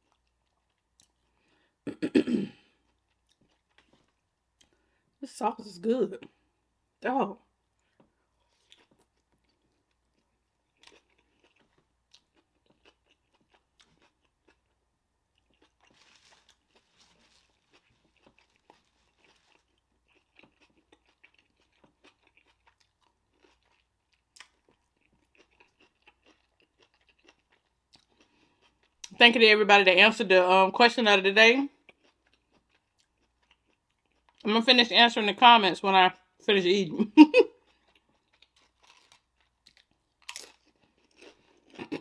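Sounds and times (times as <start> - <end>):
faint chewing with soft crunches: 0.0 - 1.8, 2.5 - 5.4, 7.4 - 29.3, 31.6 - 34.8, 37.5 - 42.0.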